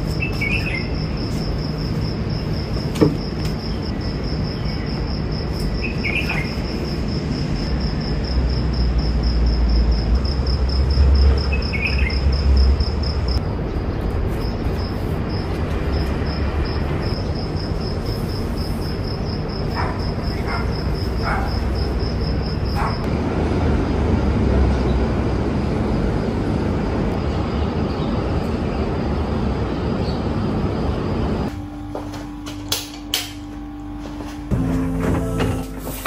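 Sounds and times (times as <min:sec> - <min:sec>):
low city rumble: 0:00.0 - 0:36.0.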